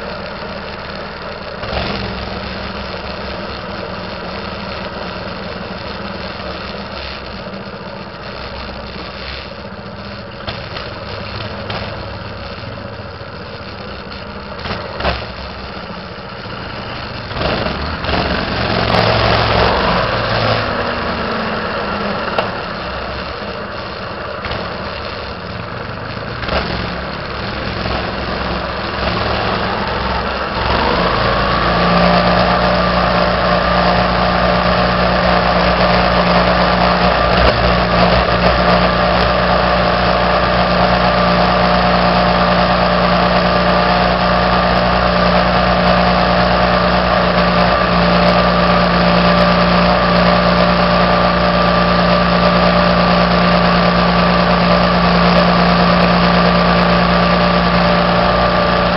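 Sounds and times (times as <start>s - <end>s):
minibike engine running: 0.0s - 58.9s.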